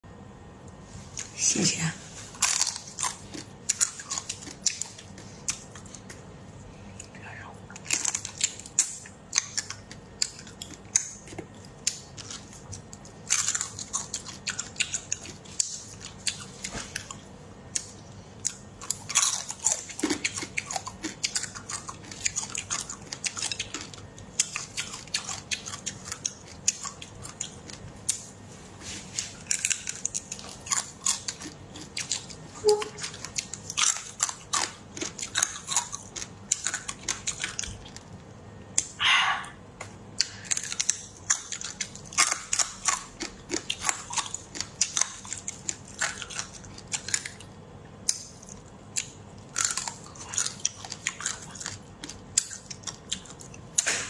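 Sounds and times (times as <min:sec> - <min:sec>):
crab shell crunching: 0:07.8 - 0:28.4, 0:29.2 - 0:38.2, 0:40.2 - 0:54.0.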